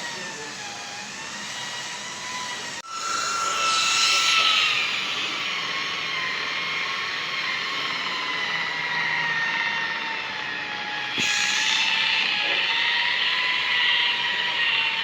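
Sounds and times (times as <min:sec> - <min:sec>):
buffing machine motor whine: 0:00.0 - 0:15.0.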